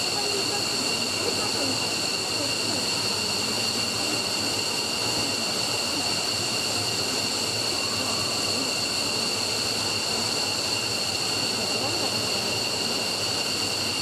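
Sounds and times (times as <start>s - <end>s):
jet engine whining: 0.0s - 14.0s.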